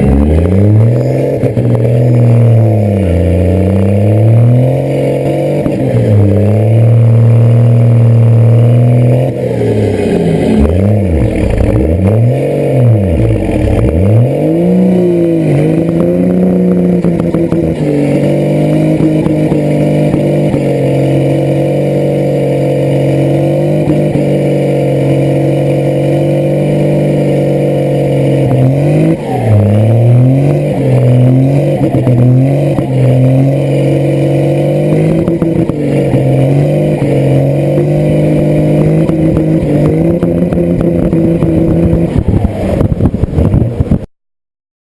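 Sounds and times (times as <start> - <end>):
engine running and revving: 0.0 - 44.1.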